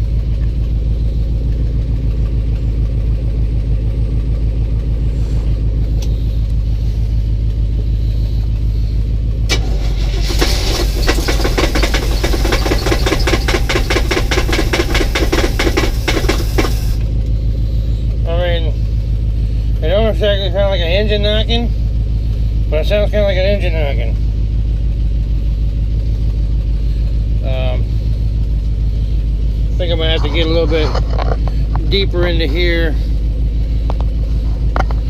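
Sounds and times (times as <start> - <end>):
truck engine knocking clatter: 0.0 - 17.4, 18.0 - 35.0
truck engine idling: 0.0 - 35.0.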